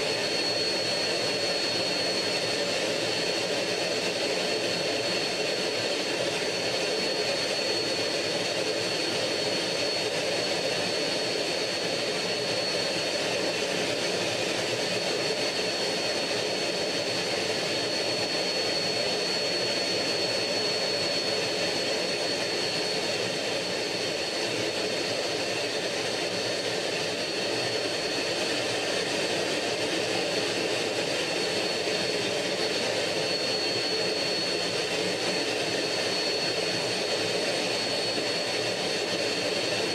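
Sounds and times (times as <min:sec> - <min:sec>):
constant high engine whine: 0:00.0 - 0:39.9
jet engine and air rush: 0:00.0 - 0:39.9.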